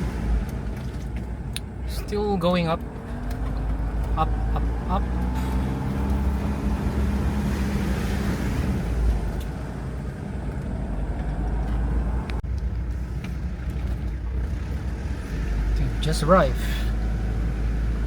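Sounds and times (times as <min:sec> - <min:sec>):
diesel engine under load: 0:00.0 - 0:18.0
road noise: 0:00.0 - 0:18.0.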